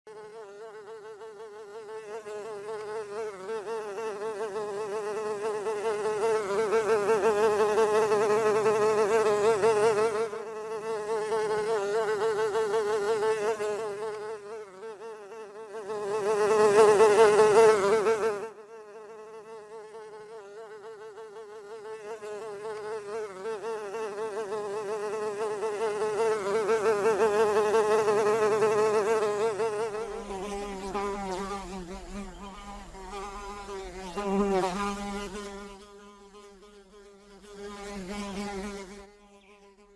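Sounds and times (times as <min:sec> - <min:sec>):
fly buzzing: 0:00.1 - 0:39.9.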